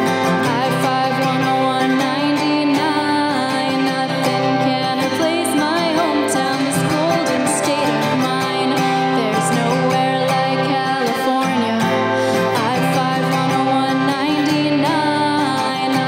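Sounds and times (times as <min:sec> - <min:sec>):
acoustic guitar strumming: 0:00.0 - 0:16.0
woman singing with vibrato: 0:00.0 - 0:16.0.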